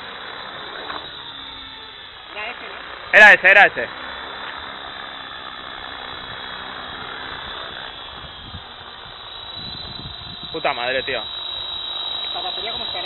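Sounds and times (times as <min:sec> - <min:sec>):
rc helicopter motor and rotor hum: 0:00.0 - 0:13.0.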